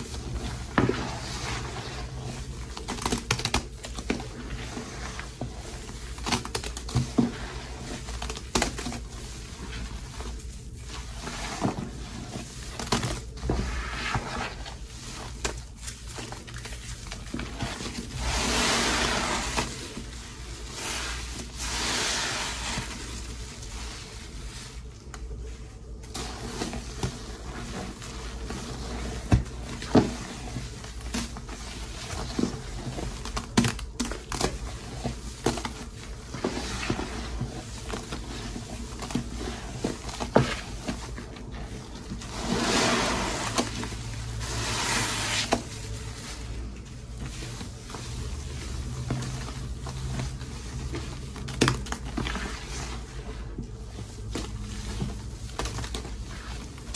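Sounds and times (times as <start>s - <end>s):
sponge squelching soap paste: 0.0s - 56.9s.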